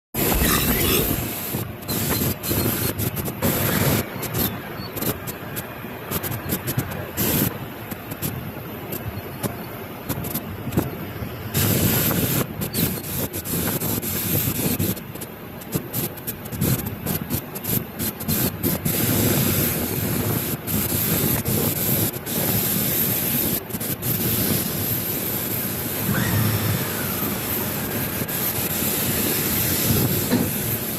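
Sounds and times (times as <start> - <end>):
thrust reverser hiss and rumble: 0.2 - 30.9.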